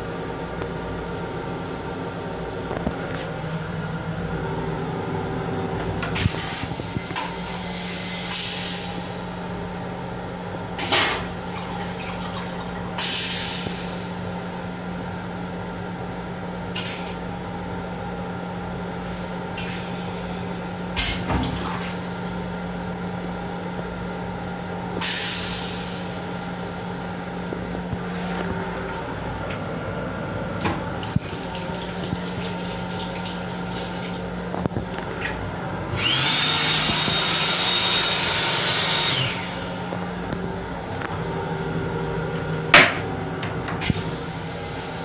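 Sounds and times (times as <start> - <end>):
electric railcar hum: 0.0 - 45.0.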